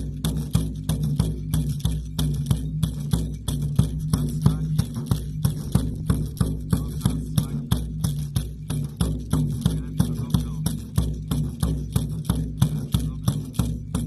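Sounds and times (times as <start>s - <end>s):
frame drum beating: 0.0s - 14.0s.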